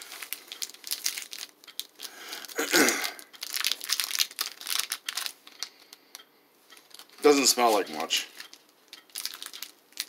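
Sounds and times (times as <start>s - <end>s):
plastic wrapper crinkling and tearing: 0.0s - 6.2s, 6.8s - 10.0s.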